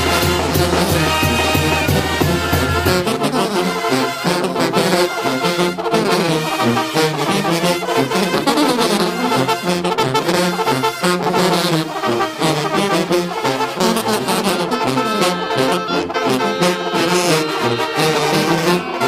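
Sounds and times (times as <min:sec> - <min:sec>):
conga drum: 0:00.0 - 0:04.2, 0:06.5 - 0:19.0
brass band playing: 0:00.0 - 0:19.0.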